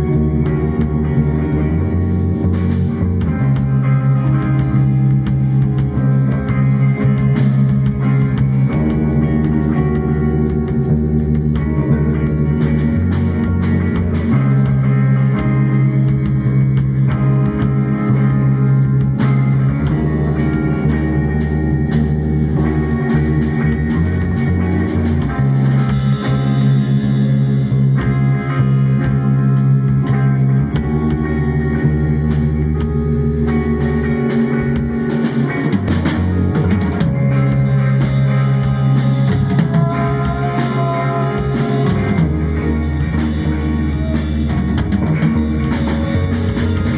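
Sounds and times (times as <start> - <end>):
rock drums and guitar: 0.0 - 46.9
sustained low drone: 0.0 - 46.9.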